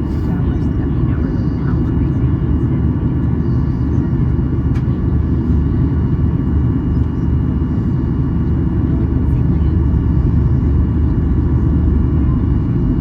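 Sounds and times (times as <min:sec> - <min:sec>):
airplane engines and airflow rumble: 0:00.0 - 0:13.0.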